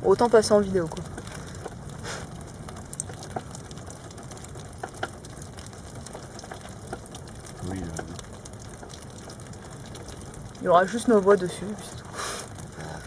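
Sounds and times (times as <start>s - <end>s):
rain hiss: 0.0s - 13.0s
drips and taps: 0.1s - 13.0s.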